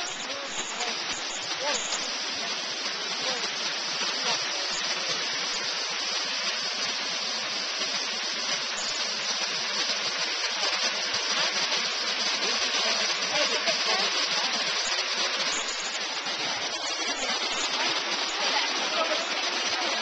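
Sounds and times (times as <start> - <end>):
falling water rushing: 0.0 - 20.0.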